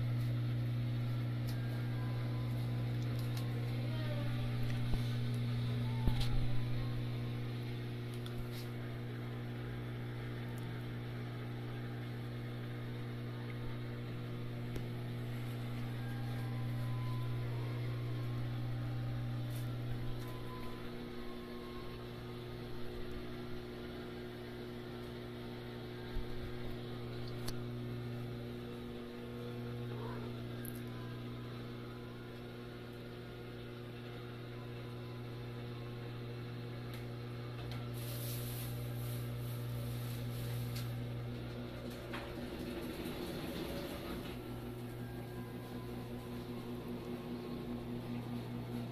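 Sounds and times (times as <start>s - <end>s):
low hum: 0.0s - 48.9s.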